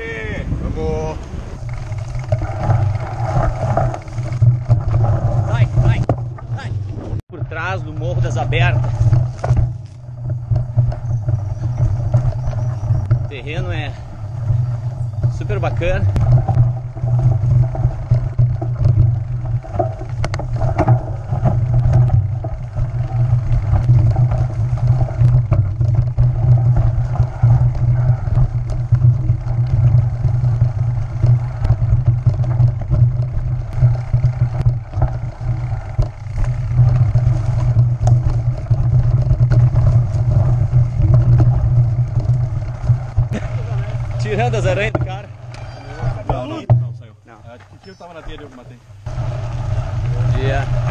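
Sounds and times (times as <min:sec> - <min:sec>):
low rumble of bike riding: 0:00.0 - 0:50.9
bike rattling and knocking: 0:01.5 - 0:50.9.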